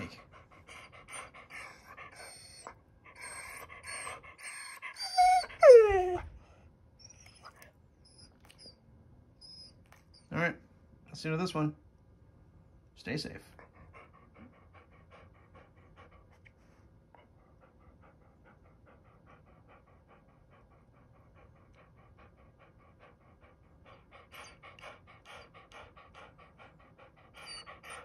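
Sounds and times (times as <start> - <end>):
dog panting: 0.0 - 8.7, 13.2 - 28.0.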